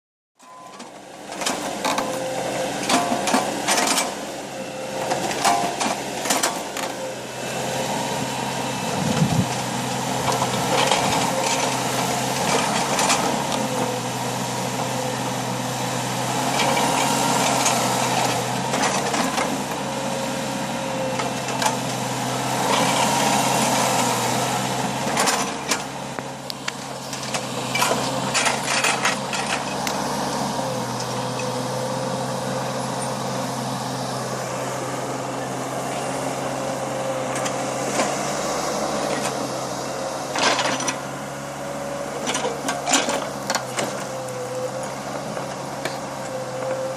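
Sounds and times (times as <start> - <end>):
backhoe engine running: 0.4 - 46.9.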